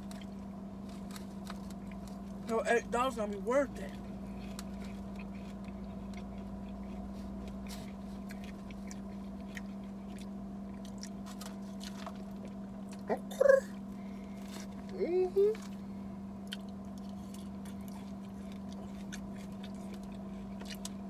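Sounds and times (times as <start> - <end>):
chewing salad: 0.0 - 2.6, 3.6 - 21.0
low hum inside a car: 0.0 - 21.0.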